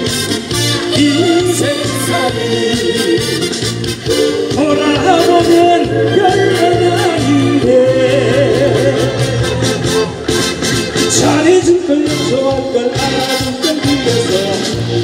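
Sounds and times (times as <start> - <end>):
upbeat dance music over loudspeakers: 0.0 - 15.0.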